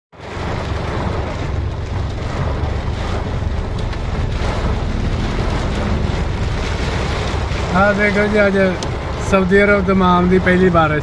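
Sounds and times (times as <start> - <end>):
heavy rain on car roof: 0.1 - 11.0
low rumble: 0.2 - 10.0.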